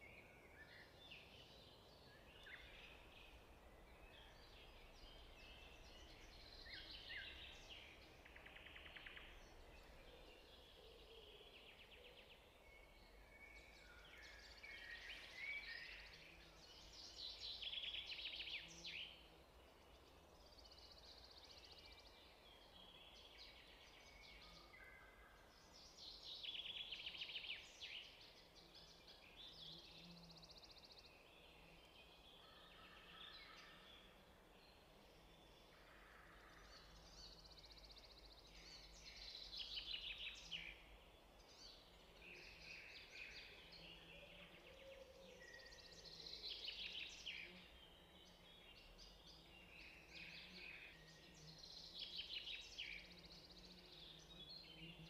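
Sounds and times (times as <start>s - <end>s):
faint trilled birdsong: 0.0s - 55.0s.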